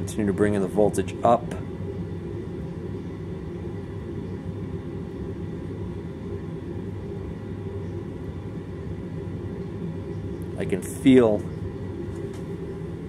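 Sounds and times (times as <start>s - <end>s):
heating boiler rumbling: 0.0s - 13.0s.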